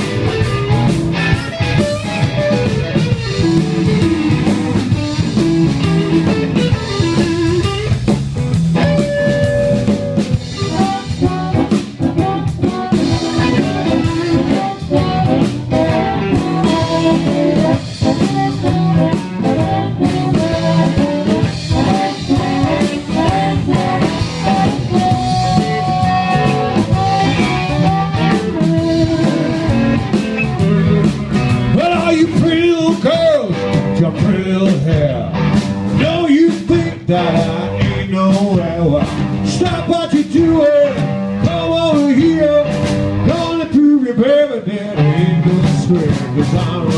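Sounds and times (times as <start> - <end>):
lead electric guitar bending notes: 0.0 - 43.8, 44.5 - 46.9
bass guitar: 0.0 - 46.9
drum kit: 0.0 - 46.9.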